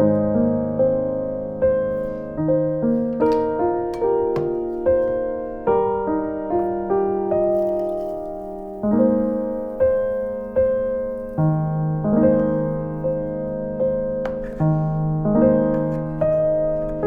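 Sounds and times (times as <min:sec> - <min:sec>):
calm slow piano music: 0:00.0 - 0:17.0.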